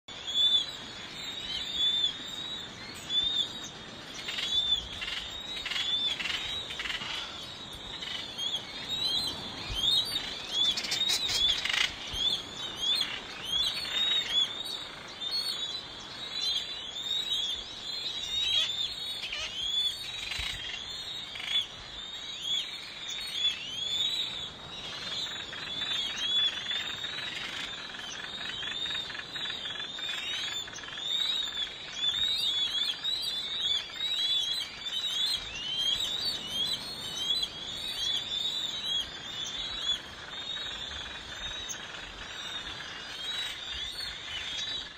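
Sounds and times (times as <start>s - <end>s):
seabird colony calling: 0.1s - 44.9s.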